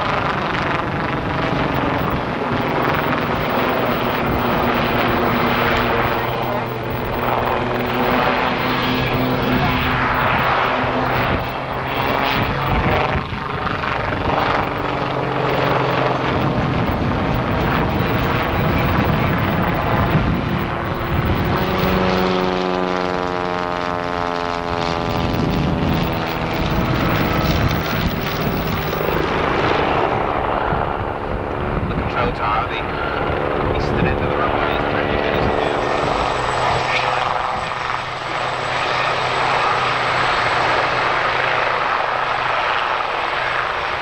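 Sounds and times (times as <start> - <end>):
aircraft passing by: 0.0 - 44.0
helicopter rotor and turbine drone: 0.0 - 44.0.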